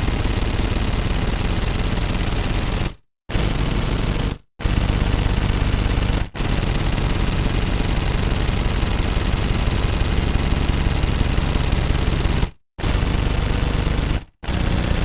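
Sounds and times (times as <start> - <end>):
rapid automatic gunfire: 0.0 - 15.0.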